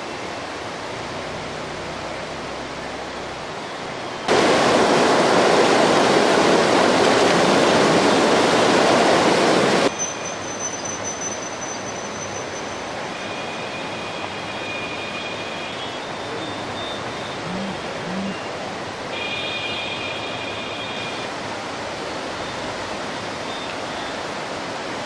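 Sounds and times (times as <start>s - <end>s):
river rushing: 0.0s - 9.9s, 11.8s - 25.0s.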